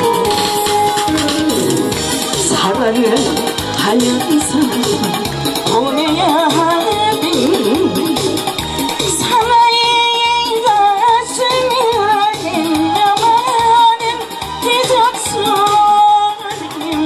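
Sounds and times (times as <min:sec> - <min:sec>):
woman singing through pa: 0:00.0 - 0:08.2, 0:09.1 - 0:17.0
musical accompaniment with beat: 0:00.0 - 0:17.0.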